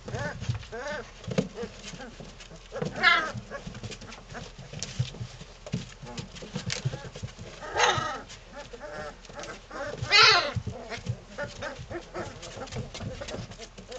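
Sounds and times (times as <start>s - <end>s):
puppies squealing and yelping: 0.0s - 4.9s, 6.8s - 13.9s
puppies growling: 0.0s - 13.9s.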